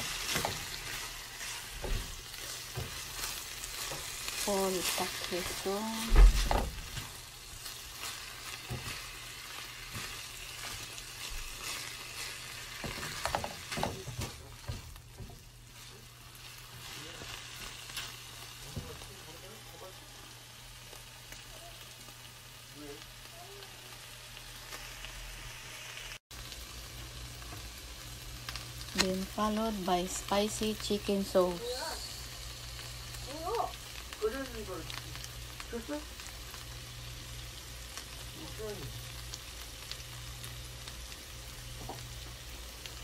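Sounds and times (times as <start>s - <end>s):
food sizzling in a frying pan: 0.0s - 43.0s.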